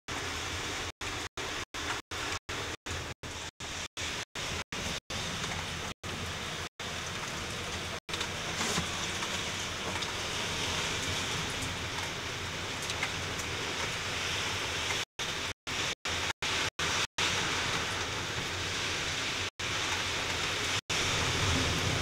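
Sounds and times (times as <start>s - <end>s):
heavy rain pouring: 0.1s - 22.0s.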